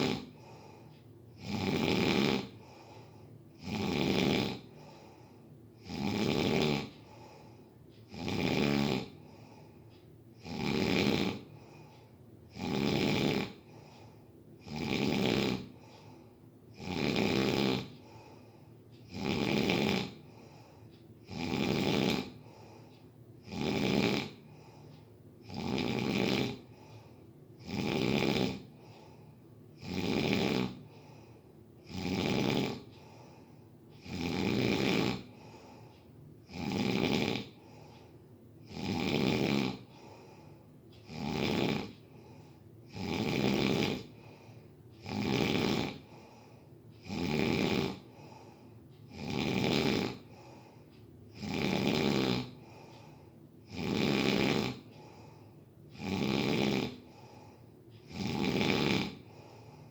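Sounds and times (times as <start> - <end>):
loud snoring: 0.0 - 0.8, 1.4 - 5.2, 5.8 - 7.5, 8.1 - 9.6, 10.4 - 11.9, 12.5 - 18.4, 19.0 - 22.8, 23.4 - 24.8, 25.4 - 29.2, 29.8 - 33.4, 34.0 - 35.8, 36.4 - 38.0, 38.6 - 59.8
faint breathing: 0.0 - 59.9.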